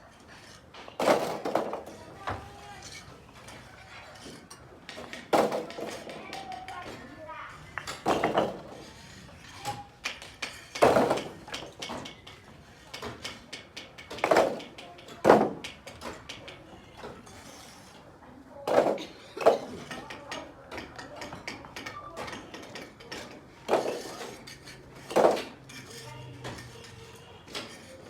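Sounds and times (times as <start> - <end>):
kitchenware clinking and knocking: 0.0 - 17.9, 18.7 - 28.0.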